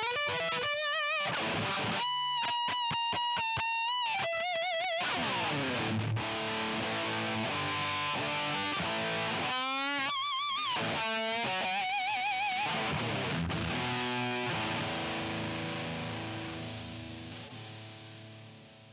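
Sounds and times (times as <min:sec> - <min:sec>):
distorted electric guitar: 0:00.0 - 0:18.9.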